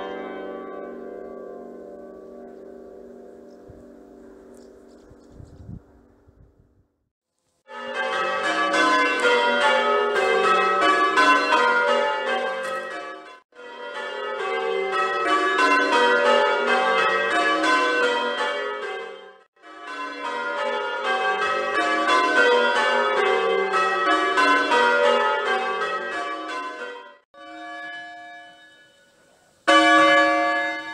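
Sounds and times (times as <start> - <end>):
church bells ringing: 0.0 - 4.9, 7.7 - 30.9.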